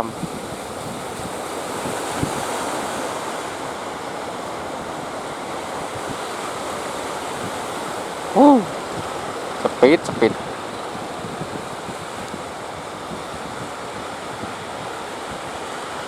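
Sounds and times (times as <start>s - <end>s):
waves breaking: 0.0s - 16.0s
wind buffeting microphone: 0.0s - 16.0s.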